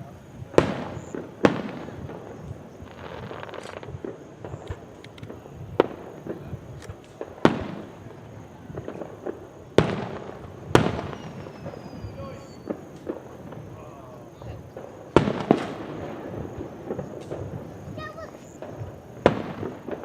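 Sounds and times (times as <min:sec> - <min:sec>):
crackling firework pops: 0:00.0 - 0:20.0
fireworks booming: 0:00.0 - 0:20.0.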